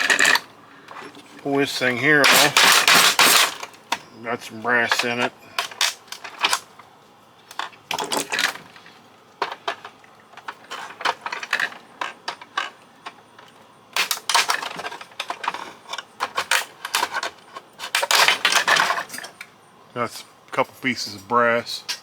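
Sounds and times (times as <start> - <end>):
small parts clicking and clattering: 0.0 - 22.0.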